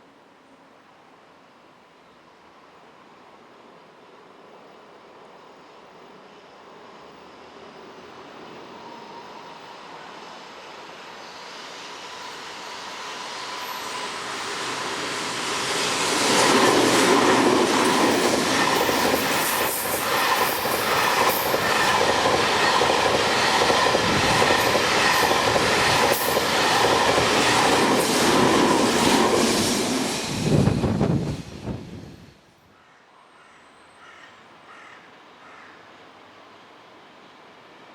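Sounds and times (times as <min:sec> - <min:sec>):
freight train passing: 0:02.5 - 0:32.7, 0:33.7 - 0:37.9.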